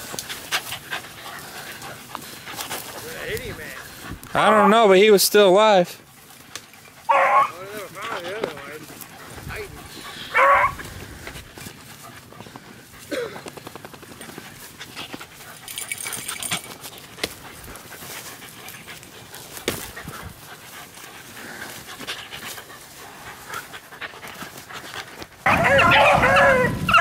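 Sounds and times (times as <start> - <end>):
dog panting: 0.0 - 25.8
rustling of grass: 0.0 - 27.0.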